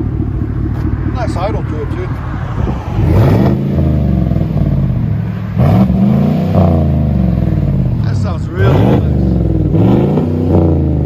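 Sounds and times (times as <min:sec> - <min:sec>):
vee eight engine idling and revving: 0:00.0 - 0:11.0.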